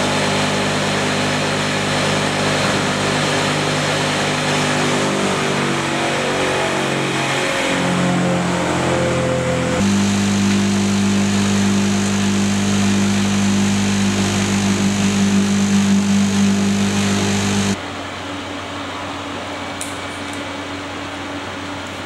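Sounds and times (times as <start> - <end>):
machinery electric motor hum: 0.0 - 17.8.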